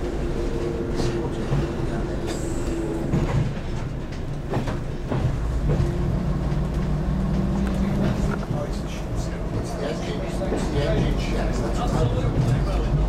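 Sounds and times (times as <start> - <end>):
rail noise: 0.0 - 13.0
train engine drone: 0.0 - 13.0.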